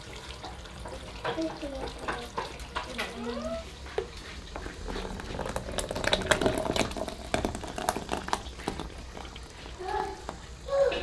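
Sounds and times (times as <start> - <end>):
bubbling in cooking pot: 0.0 - 11.0
stirring clicks and taps: 0.4 - 10.6.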